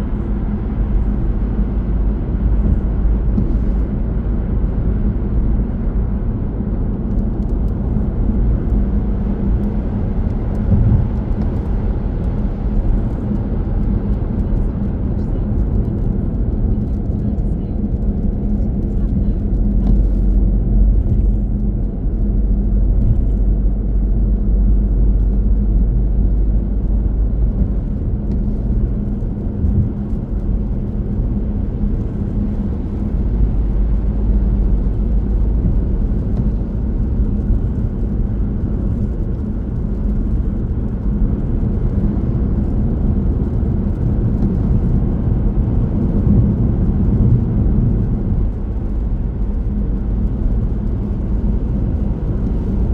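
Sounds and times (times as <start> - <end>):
car driving rumble: 0.0 - 52.9.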